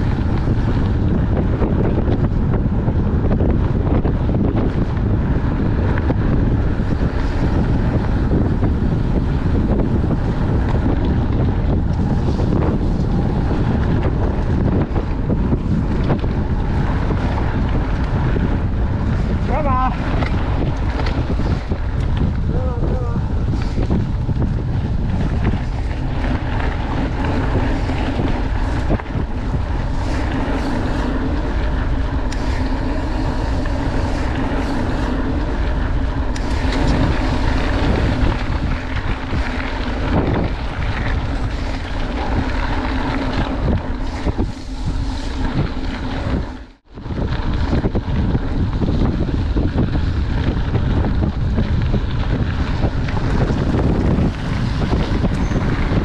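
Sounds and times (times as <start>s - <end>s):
tyres rolling over gravel: 0.0s - 56.0s
wind rumbling on microphone: 0.0s - 56.0s.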